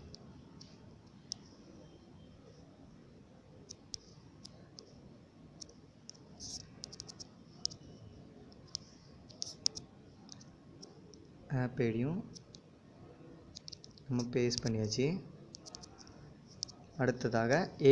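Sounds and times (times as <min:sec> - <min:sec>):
faint room hiss: 0:00.0 - 0:17.9.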